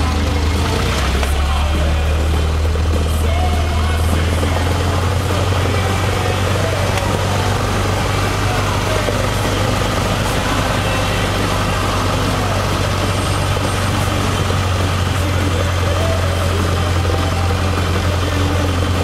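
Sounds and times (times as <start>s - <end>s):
light aircraft engine drone: 0.0s - 19.0s.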